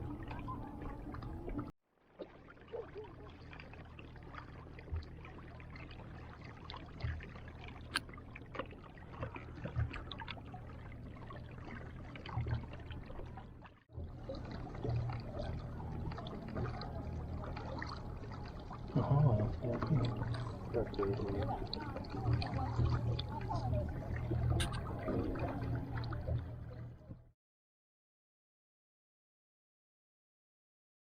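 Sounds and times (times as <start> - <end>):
water lapping against boat hull: 0.0 - 27.3.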